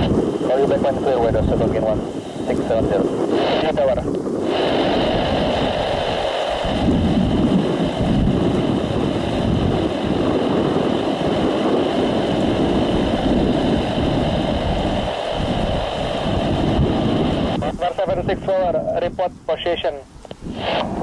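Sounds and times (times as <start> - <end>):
distant jet engines running: 0.0 - 21.0
wind noise on microphone: 0.0 - 21.0.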